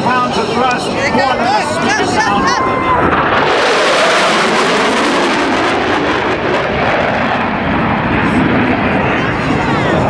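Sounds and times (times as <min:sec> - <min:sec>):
jets flying past: 0:00.0 - 0:10.0.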